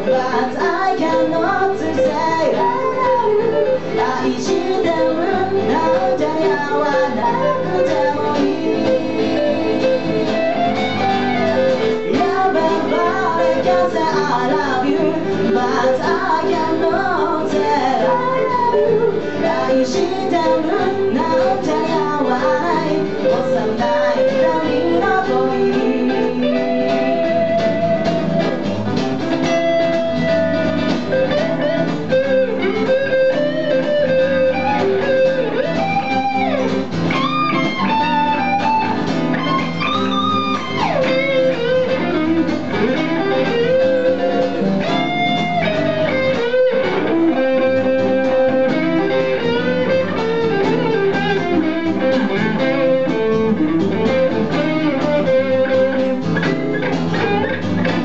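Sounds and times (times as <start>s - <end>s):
electric guitar blues lead: 0.0s - 58.0s
strummed acoustic guitar: 0.0s - 58.0s.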